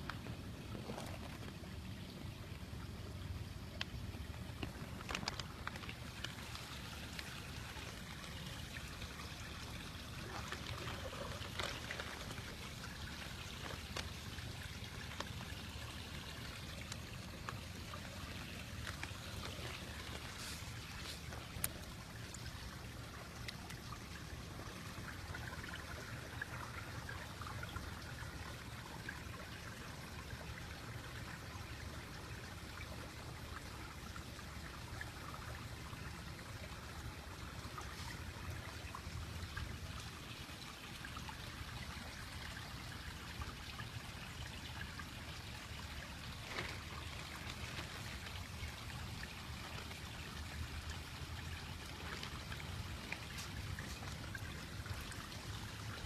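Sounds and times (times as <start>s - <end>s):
pond water trickling: 0.0s - 56.0s.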